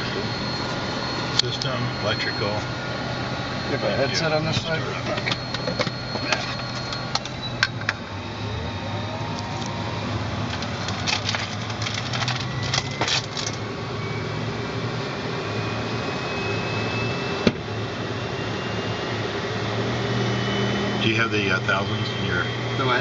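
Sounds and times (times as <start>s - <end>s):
jet engine spooling up whine: 0.0s - 23.0s
steady cockpit hum: 0.0s - 23.0s.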